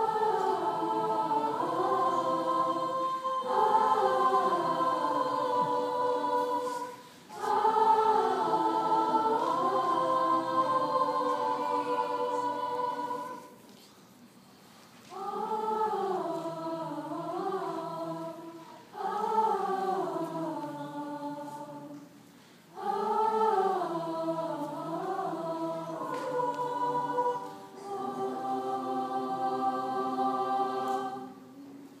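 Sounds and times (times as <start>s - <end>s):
choir singing: 0.0s - 13.7s, 15.0s - 32.0s.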